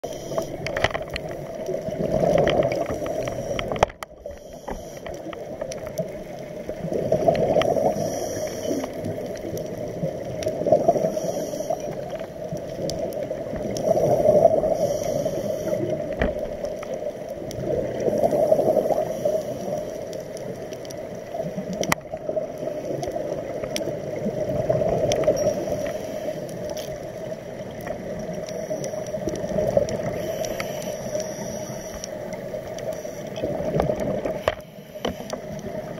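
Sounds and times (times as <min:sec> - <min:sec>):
underwater exhaled bubbles: 0:00.0 - 0:35.9.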